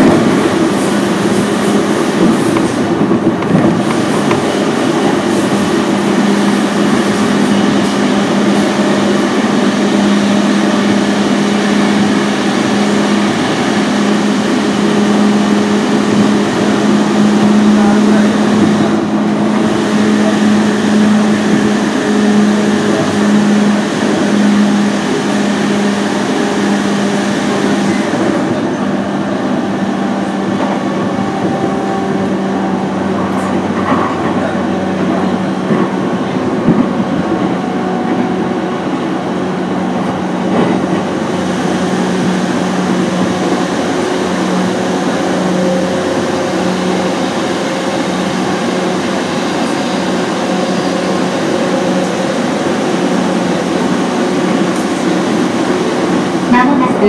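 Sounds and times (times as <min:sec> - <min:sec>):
train wheel and rail rumble: 0:00.0 - 0:57.0.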